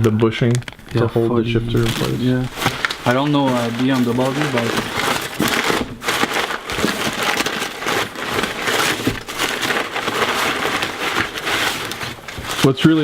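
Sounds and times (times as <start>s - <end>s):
wrapping material crinkling: 0.0s - 13.0s.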